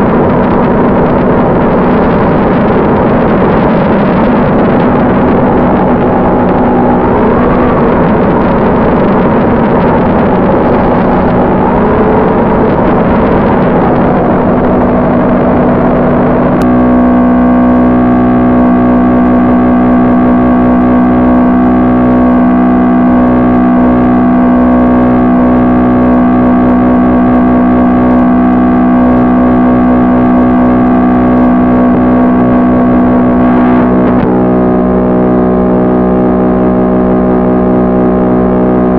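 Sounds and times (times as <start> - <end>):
drone of held tones: 0.0 - 38.9
heavy wind noise: 0.0 - 38.9.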